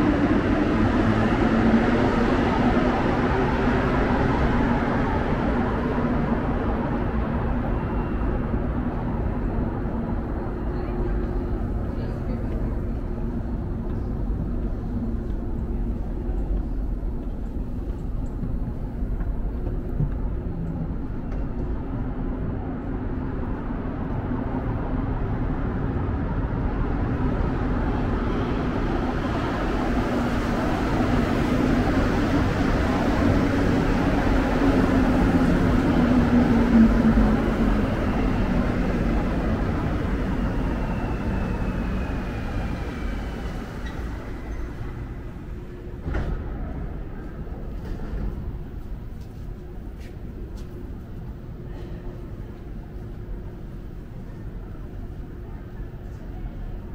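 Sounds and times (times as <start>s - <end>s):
metro train running: 0.0s - 56.9s.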